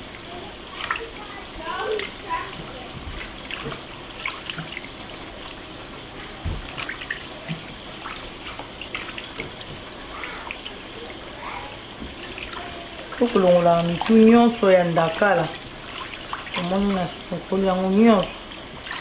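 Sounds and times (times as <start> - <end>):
water splashing and dripping: 0.0 - 5.6, 6.2 - 19.0.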